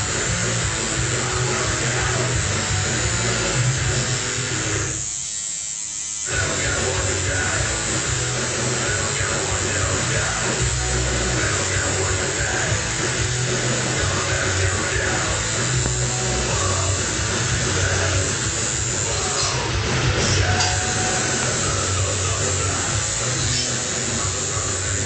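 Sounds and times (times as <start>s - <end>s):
tattoo machine buzzing: 0.0s - 25.0s.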